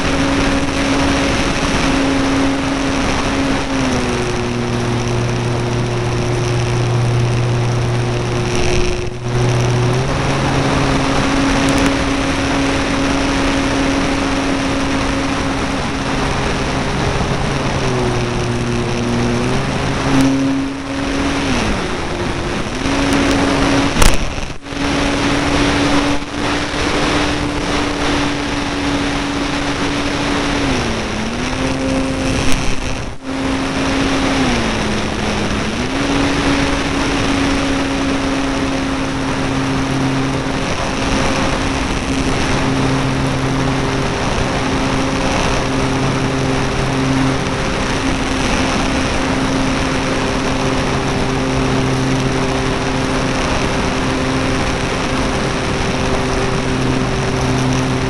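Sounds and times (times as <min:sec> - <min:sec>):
electric motor and propeller: 0:00.0 - 0:58.0
loud crackles: 0:00.0 - 0:58.0
wind rush: 0:00.0 - 0:58.0.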